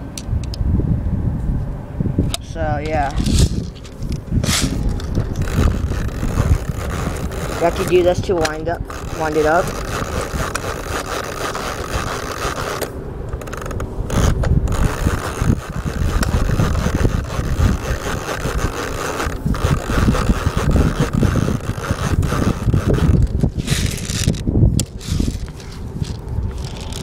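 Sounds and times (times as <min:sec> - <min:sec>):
ratchet clicking: 0:03.0 - 0:27.0.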